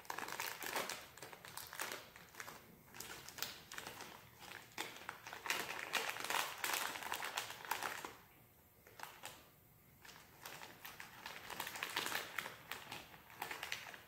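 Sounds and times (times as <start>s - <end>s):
plastic candy wrapper crinkling: 0.0s - 8.2s, 8.8s - 14.0s.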